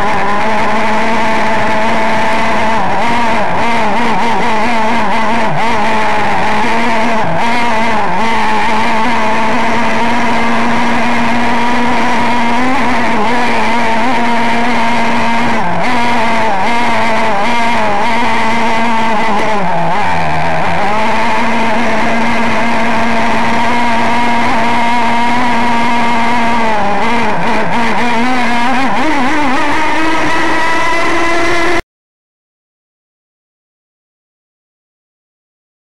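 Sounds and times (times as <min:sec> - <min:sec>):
model boat engine at high revs: 0:00.0 - 0:31.8.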